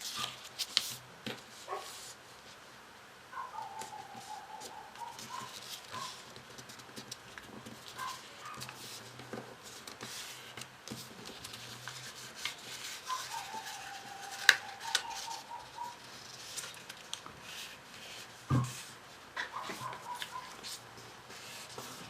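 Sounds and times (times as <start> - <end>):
paper rustling and folding: 0.0 - 2.6, 3.8 - 22.0.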